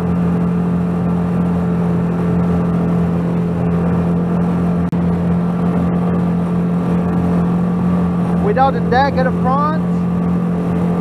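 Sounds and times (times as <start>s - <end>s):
outboard motor at full throttle: 0.0s - 11.0s.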